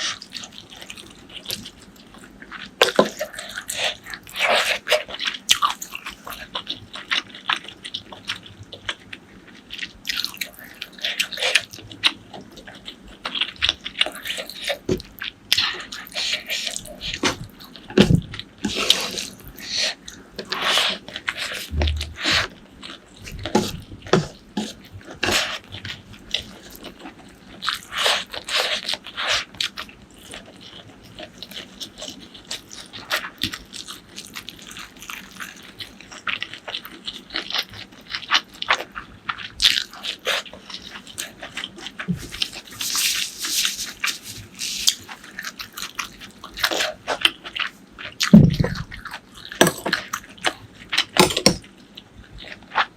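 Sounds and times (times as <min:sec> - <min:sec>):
crunchy eating and chewing: 0:00.0 - 0:52.9.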